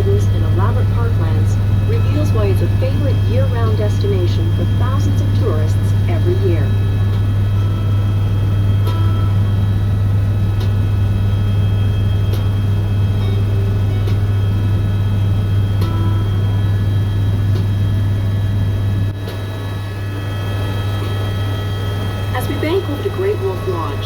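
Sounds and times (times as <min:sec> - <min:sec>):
helicopter cabin drone: 0:00.0 - 0:24.0
high-pitched whine: 0:00.0 - 0:24.0.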